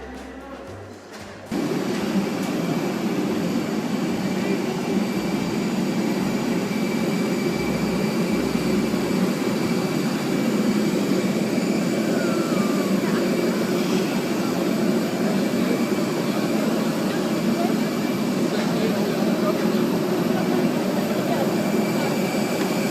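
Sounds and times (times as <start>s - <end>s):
jet airliner rushing hum: 1.5s - 22.9s
high whine: 1.6s - 20.2s.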